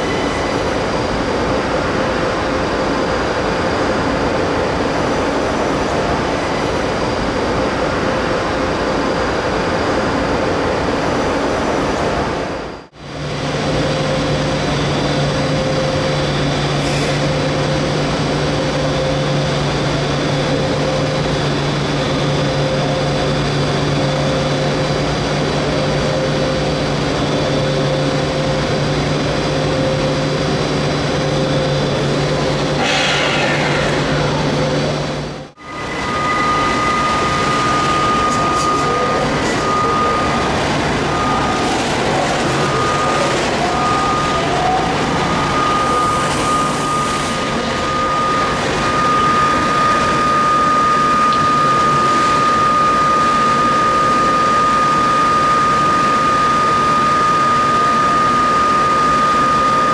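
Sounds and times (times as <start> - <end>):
train rumbling: 0.0 - 55.2.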